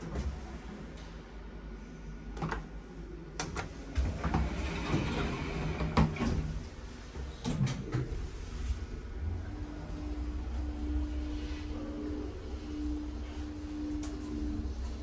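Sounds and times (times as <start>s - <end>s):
steady low elevator hum: 0.0s - 15.0s.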